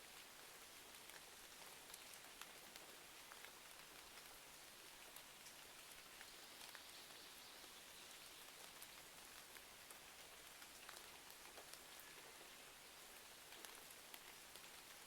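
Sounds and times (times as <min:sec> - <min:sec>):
faint rain hiss: 0:00.0 - 0:15.0.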